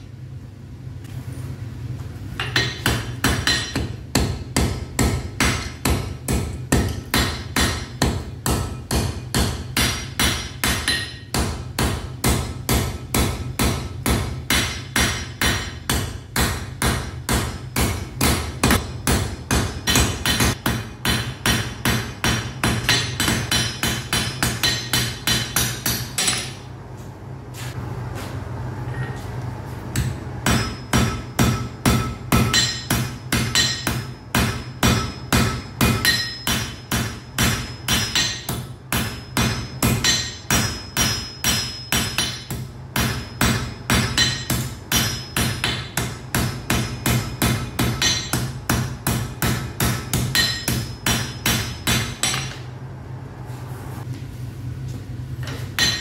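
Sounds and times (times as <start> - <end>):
hammer striking iron on anvil: 2.4 - 26.7, 29.9 - 52.7, 55.4 - 56.0.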